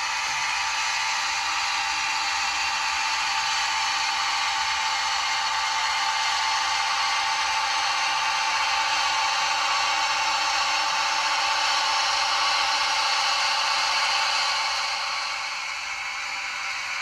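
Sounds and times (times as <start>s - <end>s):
diesel engine sound through small speaker: 0.0s - 17.0s.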